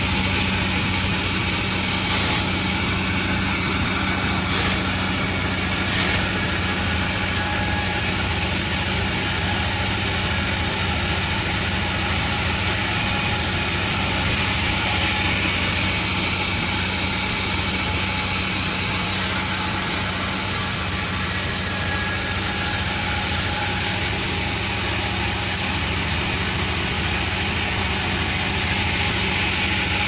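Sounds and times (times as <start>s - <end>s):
sawmill machine hum: 0.0s - 30.0s.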